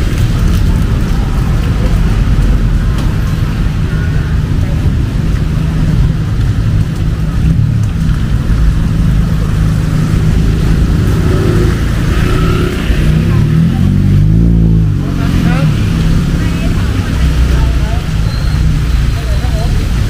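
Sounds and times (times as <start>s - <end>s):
rain hiss on wet road: 0.0s - 20.0s
vehicle engine rumbling: 0.0s - 20.0s.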